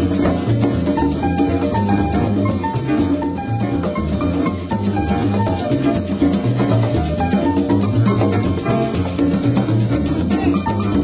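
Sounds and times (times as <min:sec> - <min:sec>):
bass notes: 0:00.0 - 0:11.0
drum kit: 0:00.0 - 0:11.0
hand percussion: 0:00.0 - 0:11.0
jazz melody line: 0:00.0 - 0:11.0.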